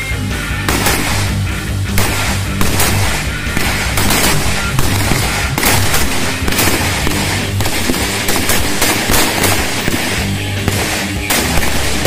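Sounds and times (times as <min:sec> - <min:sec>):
background music: 0:00.0 - 0:12.0
rifle shots: 0:00.7 - 0:12.0.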